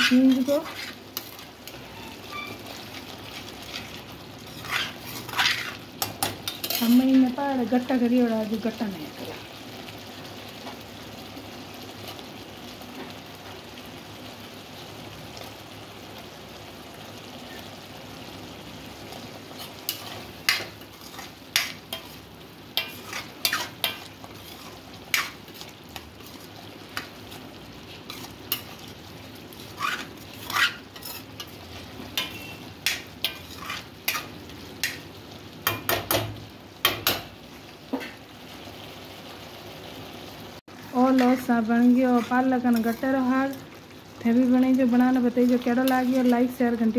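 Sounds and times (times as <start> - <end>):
gravy sizzling in a pan: 0.0 - 46.9.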